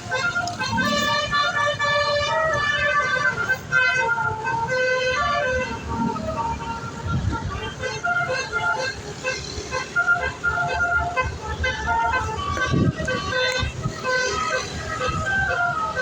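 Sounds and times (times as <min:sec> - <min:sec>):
musical air horn playing a tune: 0:00.0 - 0:16.0.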